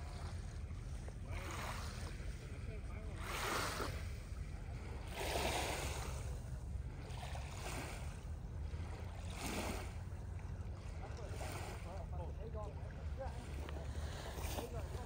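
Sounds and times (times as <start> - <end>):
small waves washing on shore: 0.0 - 15.0
steady low rumble: 0.0 - 15.0.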